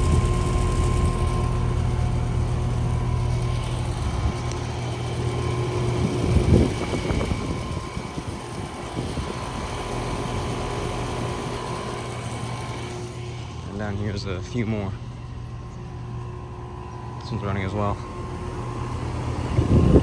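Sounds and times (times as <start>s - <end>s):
heat pump compressor hum and whine: 0.0s - 20.0s.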